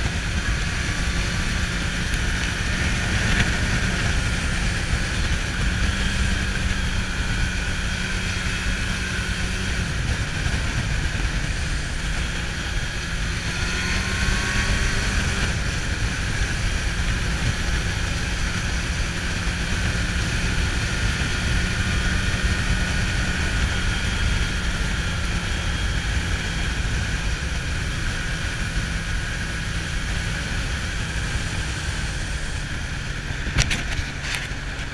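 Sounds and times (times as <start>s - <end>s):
motorcycle engine running: 0.0s - 34.9s
wind noise: 0.0s - 34.9s.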